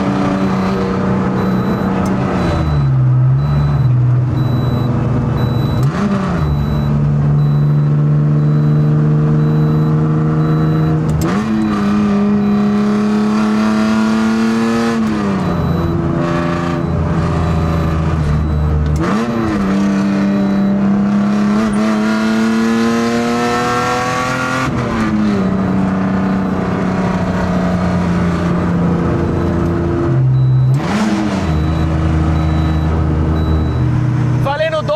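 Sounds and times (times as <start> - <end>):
car engine under load: 0.0 - 34.9.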